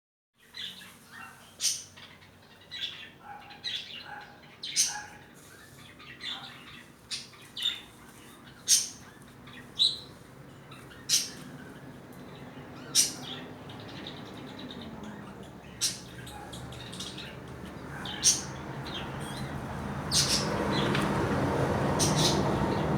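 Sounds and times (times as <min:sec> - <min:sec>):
birds chirping: 0:00.4 - 0:22.9.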